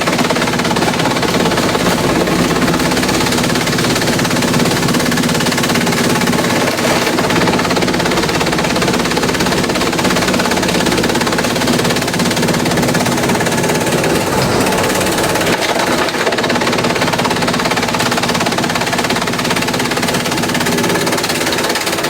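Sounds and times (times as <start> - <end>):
machine hum: 0.0 - 22.0
shredder clattering: 0.0 - 22.0.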